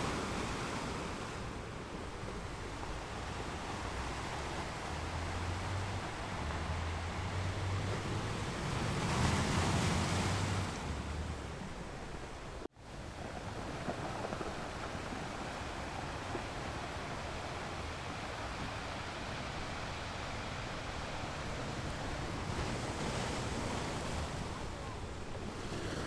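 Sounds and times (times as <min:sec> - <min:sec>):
ocean surf washing ashore: 0:00.0 - 0:26.0.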